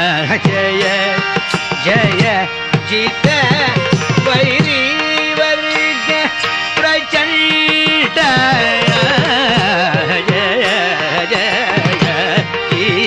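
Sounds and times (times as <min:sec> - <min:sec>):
tabla strokes: 0:00.4 - 0:13.0.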